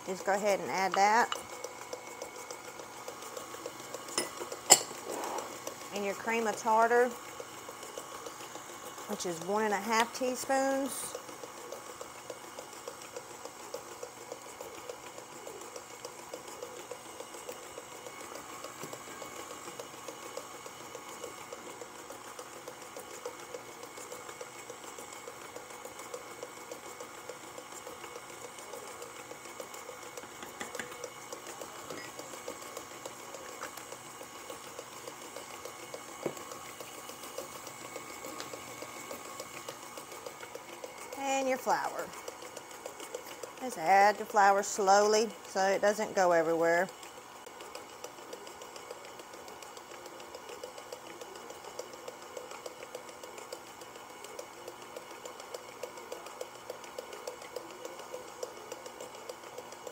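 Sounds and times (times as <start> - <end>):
stand mixer motor humming: 0.0 - 59.9.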